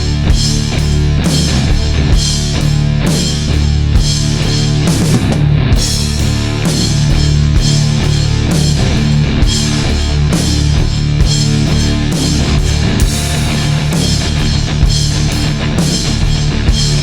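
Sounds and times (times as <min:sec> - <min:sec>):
loud rock music: 0:00.0 - 0:17.0.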